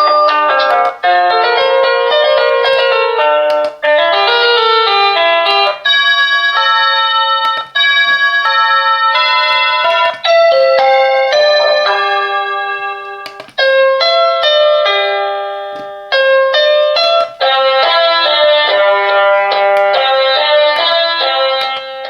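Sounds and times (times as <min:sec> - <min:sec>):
electronic doorbell chime melody: 0:00.0 - 0:22.0.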